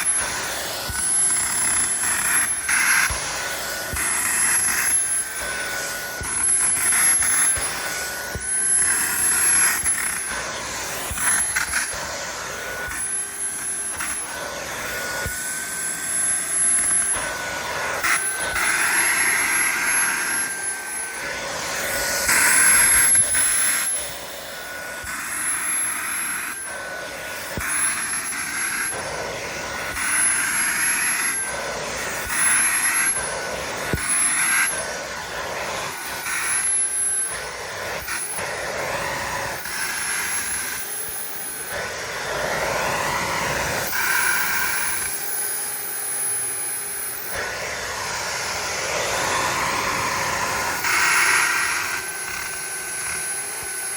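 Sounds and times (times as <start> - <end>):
vacuum motor whine: 0.0 - 53.9.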